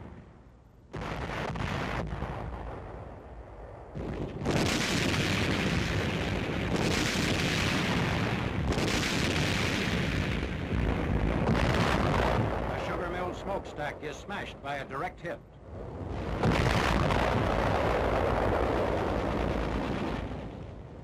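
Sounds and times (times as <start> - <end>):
artillery shells exploding: 0.9 - 15.4, 16.0 - 21.0.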